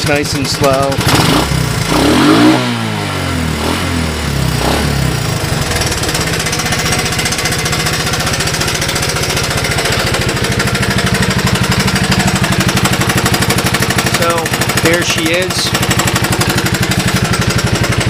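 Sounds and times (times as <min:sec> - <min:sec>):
engine revving and idling: 0:00.0 - 0:18.0.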